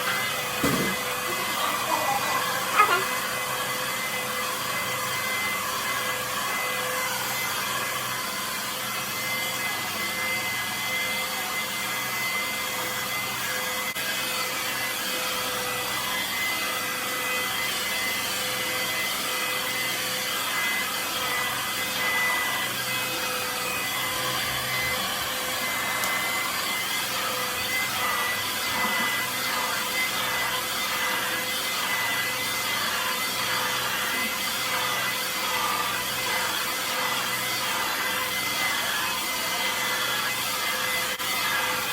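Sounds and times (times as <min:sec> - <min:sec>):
hair dryer blowing air: 0:00.0 - 0:41.9
hair dryer motor whine: 0:00.0 - 0:41.9.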